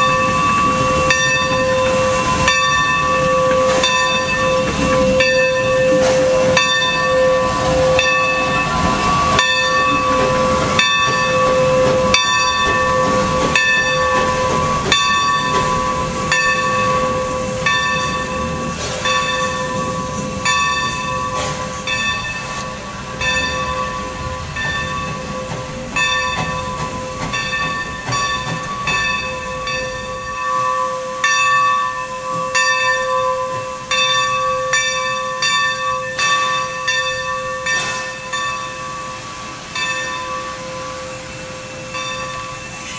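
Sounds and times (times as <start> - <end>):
steam hiss: 0.0 - 42.9
steam locomotive bell ringing: 0.0 - 42.9
steam locomotive moving slowly: 0.0 - 42.9.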